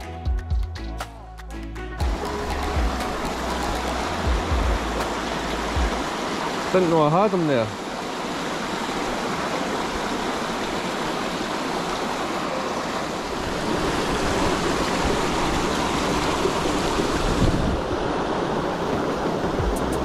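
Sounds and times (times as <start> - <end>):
water rushing over rocks: 2.0 - 20.0.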